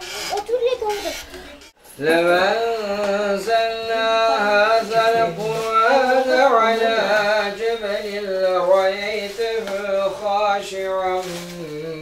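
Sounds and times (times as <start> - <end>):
person chanting religious recitation: 2.0 - 12.0.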